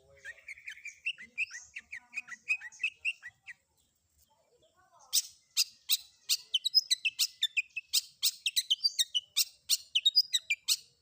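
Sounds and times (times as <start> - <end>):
bird singing rasping and whistling: 0.0 - 3.9, 5.0 - 11.0.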